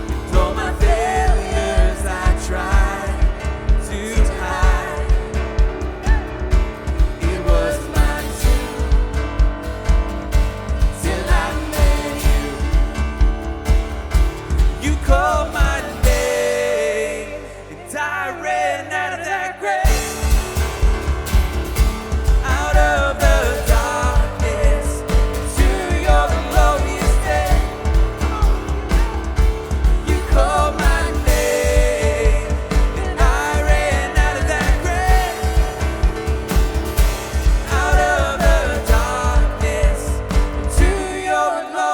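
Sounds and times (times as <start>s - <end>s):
drums: 0.0s - 17.7s, 19.8s - 41.5s
piano: 0.0s - 41.9s
voices singing: 0.0s - 41.9s.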